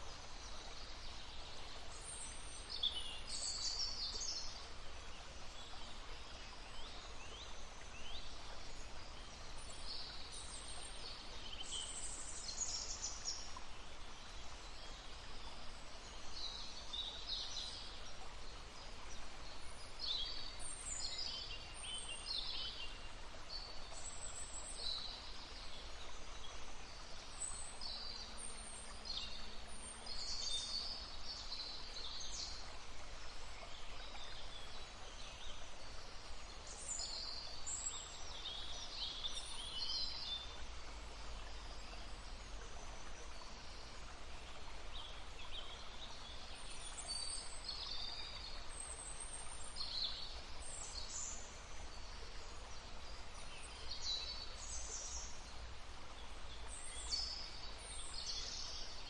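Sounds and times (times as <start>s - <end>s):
babbling brook: 0.0s - 59.0s
songbirds chirping: 0.0s - 59.0s.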